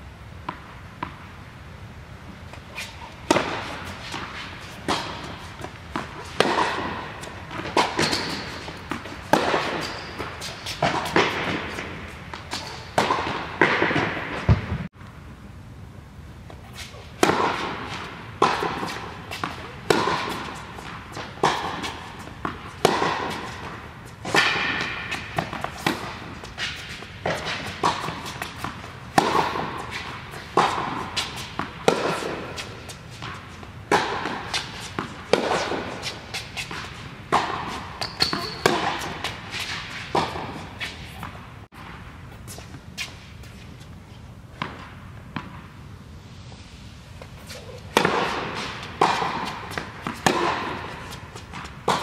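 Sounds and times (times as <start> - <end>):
tennis ball hits and bounces: 2.8 - 14.9, 17.2 - 42.0, 44.6 - 45.7, 47.2 - 52.0.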